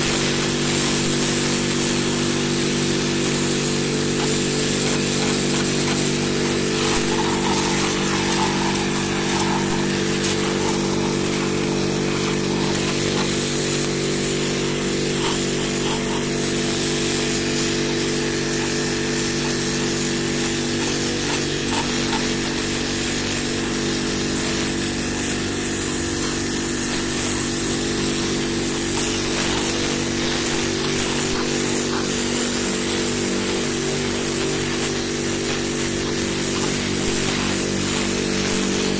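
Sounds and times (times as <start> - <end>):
pressure washer motor hum: 0.0 - 38.9
water jet hissing on tiles: 0.0 - 38.9.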